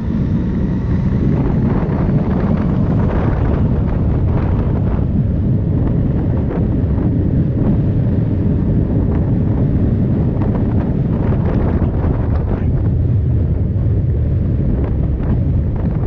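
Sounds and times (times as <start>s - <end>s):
motorcycle rumble: 0.0s - 16.0s
wind buffeting microphone: 0.0s - 16.0s.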